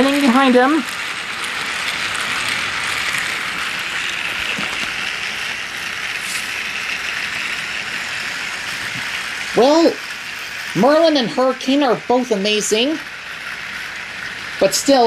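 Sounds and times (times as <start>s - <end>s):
toy train motors whirring: 0.0s - 15.0s.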